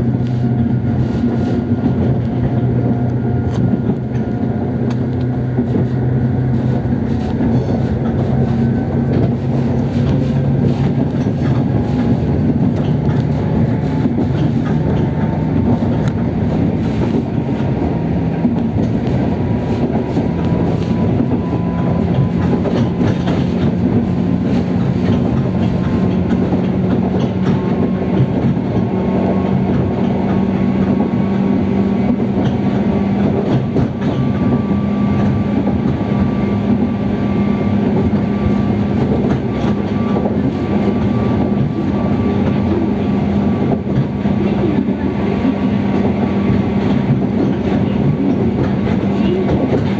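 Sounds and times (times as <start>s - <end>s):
train wheels clicking on rails: 0.0s - 49.9s.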